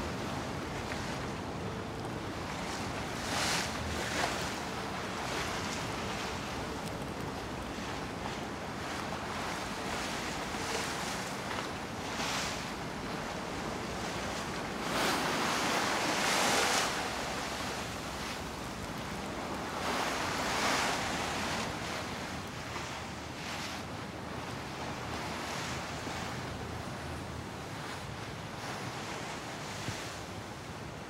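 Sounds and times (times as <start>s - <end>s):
sea water rushing: 0.0s - 31.0s.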